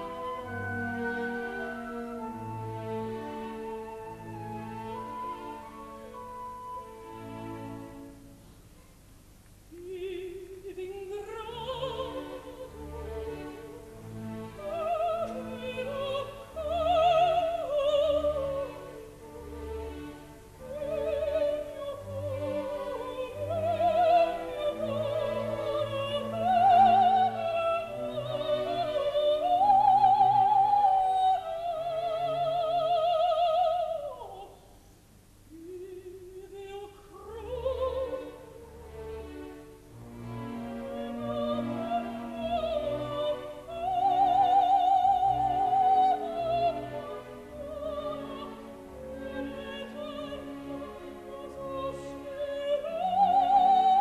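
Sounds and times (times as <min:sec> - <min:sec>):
soprano singing: 0:00.0 - 0:08.4, 0:09.7 - 0:34.8, 0:35.5 - 0:54.0
soft orchestral accompaniment: 0:00.0 - 0:54.0.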